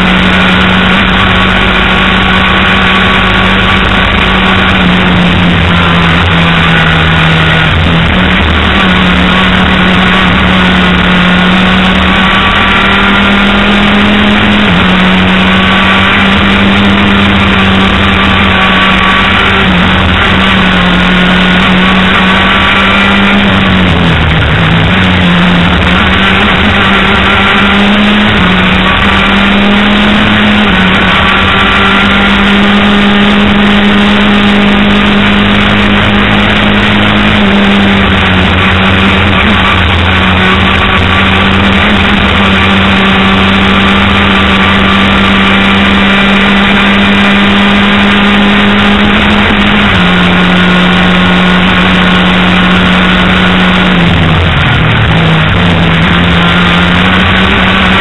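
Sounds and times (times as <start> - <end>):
racing engine at speed: 0.0 - 58.0.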